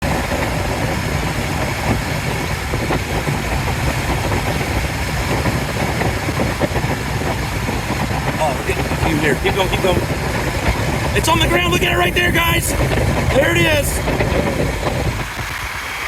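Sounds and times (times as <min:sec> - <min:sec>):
vehicle interior rumble: 0:00.0 - 0:15.8.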